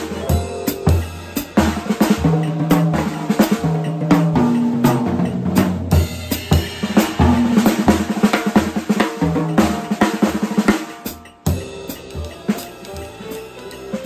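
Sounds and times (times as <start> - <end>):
acoustic drum kit: 0.0 - 14.0
swing jazz backing track: 0.0 - 14.0.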